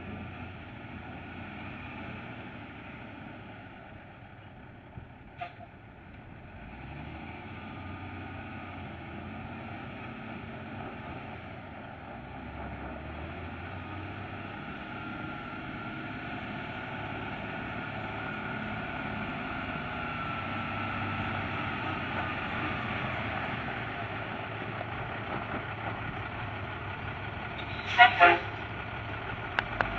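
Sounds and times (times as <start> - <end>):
diesel truck engine driving: 0.0 - 29.9.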